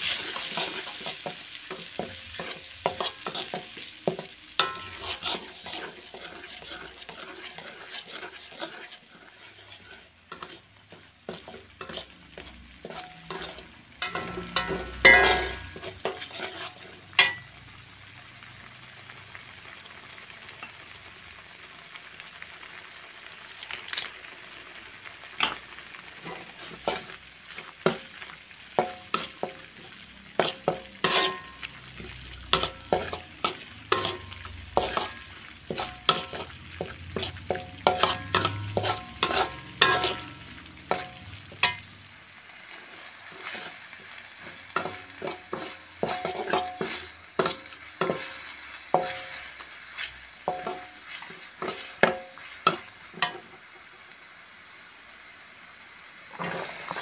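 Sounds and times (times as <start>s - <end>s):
metal spatula scraping a wok: 0.0s - 17.6s, 25.3s - 53.8s, 56.3s - 57.0s
oil sizzling: 0.0s - 57.0s.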